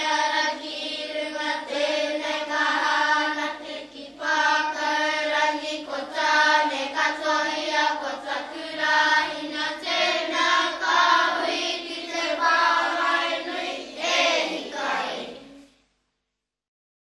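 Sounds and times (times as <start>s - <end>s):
group singing in unison: 0.0s - 15.7s.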